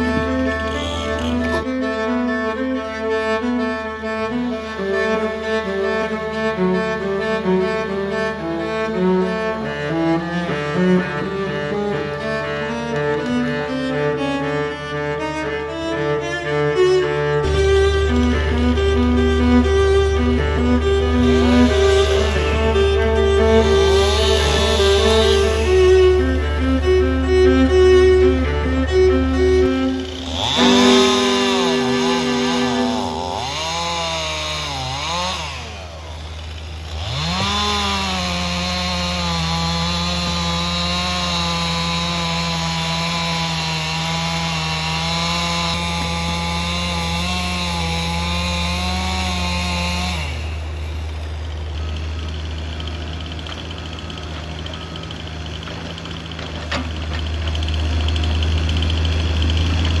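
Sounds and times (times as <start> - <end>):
heavy engine idling low: 0.0 - 39.9, 50.2 - 60.0
chainsaw sawing through wood: 0.0 - 60.0.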